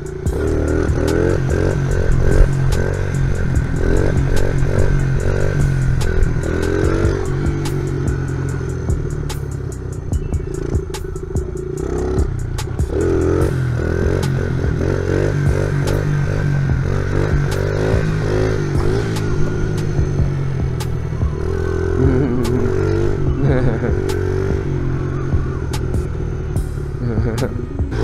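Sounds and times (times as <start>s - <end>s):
small motorcycle engine revving: 0.0s - 28.0s.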